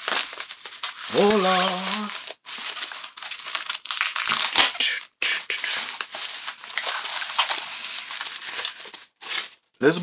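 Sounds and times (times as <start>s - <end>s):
bubble wrap crinkling and tearing: 0.0s - 9.8s.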